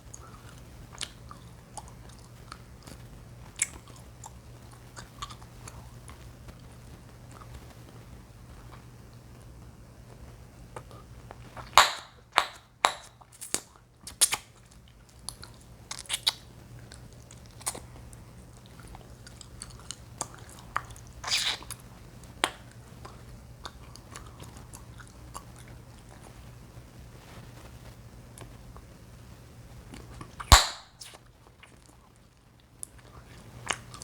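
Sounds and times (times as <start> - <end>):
chewing gum popping: 0.1 - 8.0, 10.7 - 26.4, 29.9 - 34.0
gum chewing clicks and smacks: 0.1 - 8.0, 10.7 - 26.4, 29.9 - 34.0.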